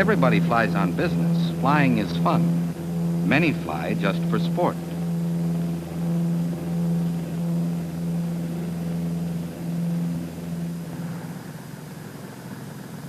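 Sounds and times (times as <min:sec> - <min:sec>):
propeller airplane engine droning: 0:00.0 - 0:13.0.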